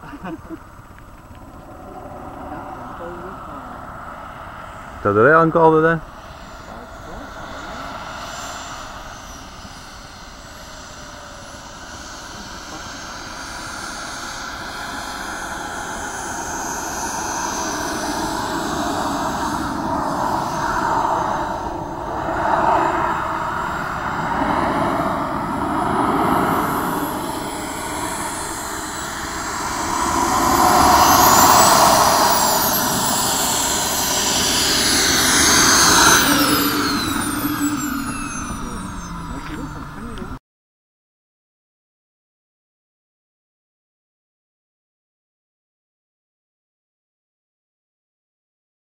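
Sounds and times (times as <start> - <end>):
model jet turbine whine: 0.0 - 40.4.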